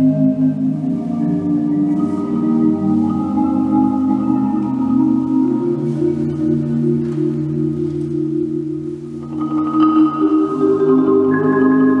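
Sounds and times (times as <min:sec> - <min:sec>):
marimbas playing rolled chords: 0:00.0 - 0:12.0.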